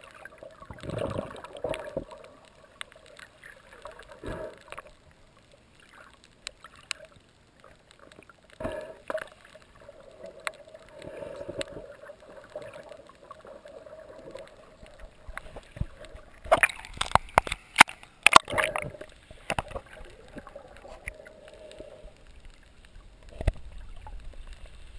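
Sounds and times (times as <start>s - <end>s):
water sloshing underwater: 0.0s - 24.9s.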